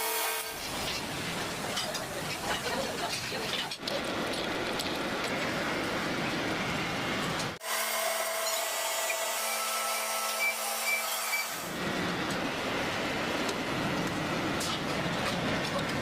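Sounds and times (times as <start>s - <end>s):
factory machinery noise: 0.0s - 16.0s.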